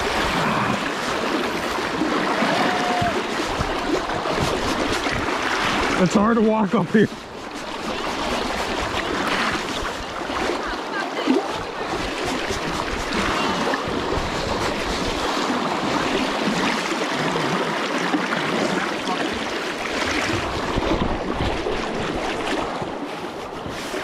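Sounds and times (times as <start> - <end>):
river current rushing: 0.0 - 24.0
water churning and splashing: 0.0 - 24.0.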